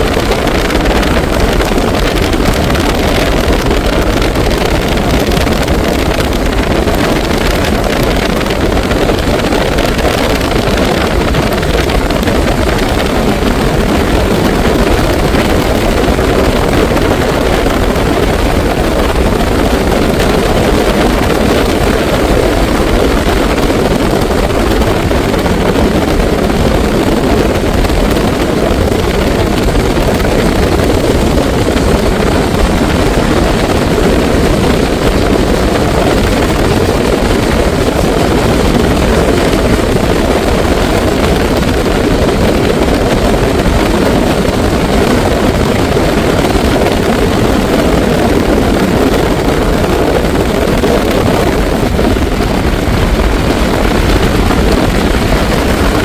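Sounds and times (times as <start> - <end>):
car wind and road noise: 0.0 - 56.0.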